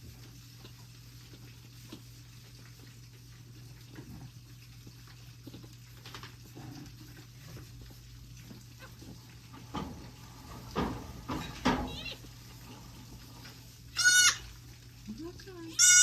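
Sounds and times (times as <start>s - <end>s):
goat kid sucking bottle: 0.0s - 9.6s, 11.3s - 16.0s.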